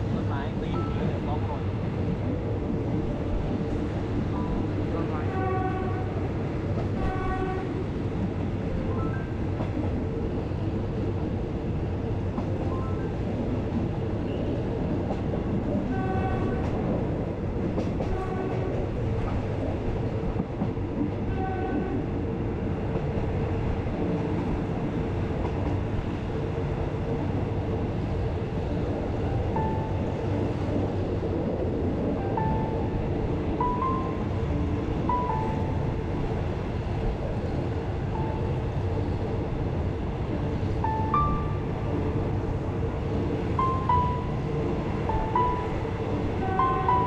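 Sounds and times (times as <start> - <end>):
train wheels rumbling on track: 0.0 - 47.0.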